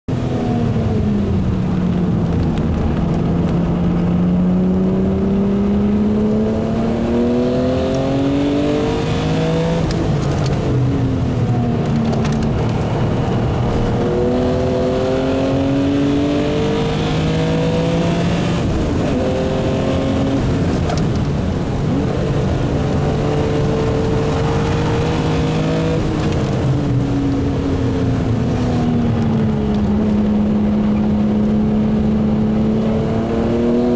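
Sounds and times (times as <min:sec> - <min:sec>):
race car engine revving: 0:00.1 - 0:33.9.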